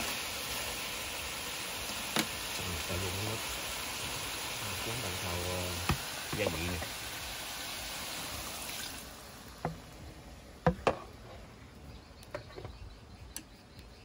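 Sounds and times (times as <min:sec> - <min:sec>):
faint hiss: 0:00.0 - 0:12.3.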